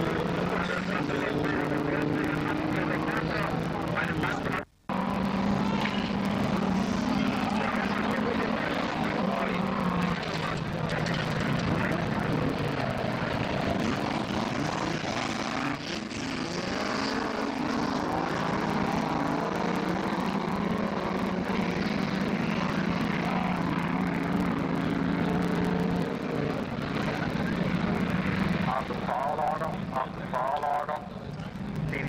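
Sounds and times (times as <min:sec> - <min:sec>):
racing car engines: 0:00.0 - 0:32.0.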